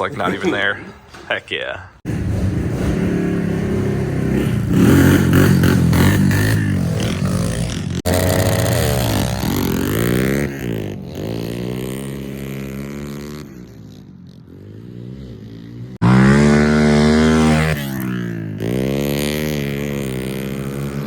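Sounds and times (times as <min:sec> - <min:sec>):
pit bike engine revving: 0:02.0 - 0:21.0.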